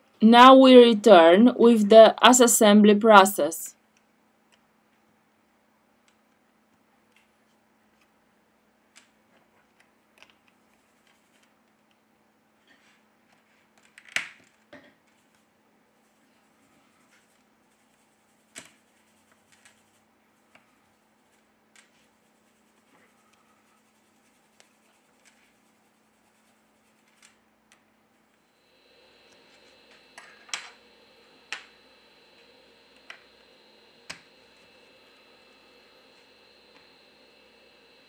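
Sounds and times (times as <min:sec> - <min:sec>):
faint steady hum: 0:00.0 - 0:13.7, 0:14.8 - 0:38.0.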